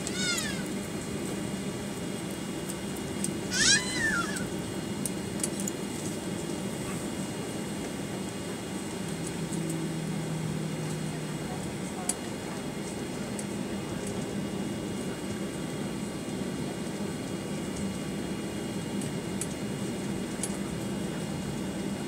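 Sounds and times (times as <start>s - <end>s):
airplane cabin engine rush: 0.0s - 22.0s.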